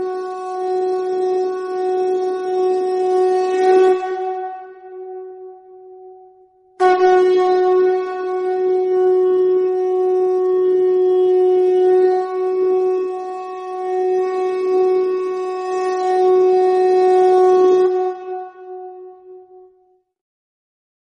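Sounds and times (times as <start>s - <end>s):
conch shell blown: 0.0s - 20.0s.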